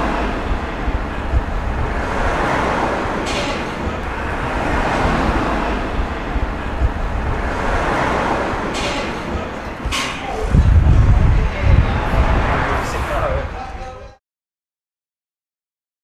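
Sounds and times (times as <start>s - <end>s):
low traffic rumble: 0.0s - 14.2s
vehicles going by: 0.0s - 14.2s.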